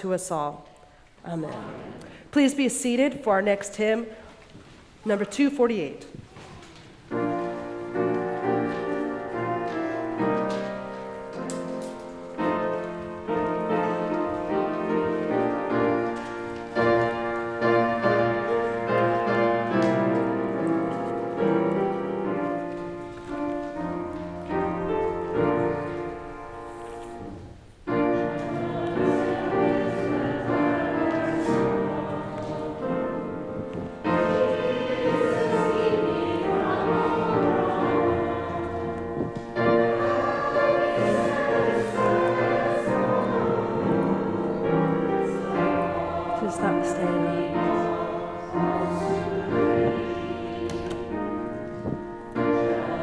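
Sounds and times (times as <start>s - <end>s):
people singing a hymn: 7.2s - 53.0s.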